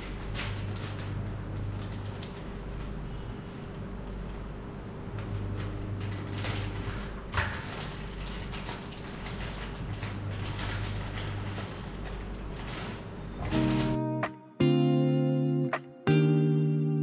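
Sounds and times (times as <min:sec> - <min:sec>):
steady hum: 0:00.0 - 0:14.2.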